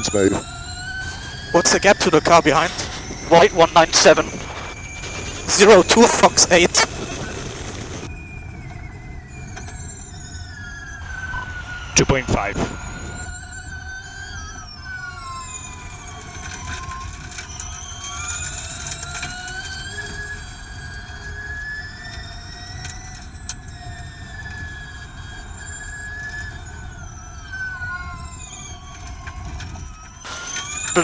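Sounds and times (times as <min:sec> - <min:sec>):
electric motor whine: 0:00.0 - 0:31.0
road and tyre rumble: 0:00.0 - 0:31.0.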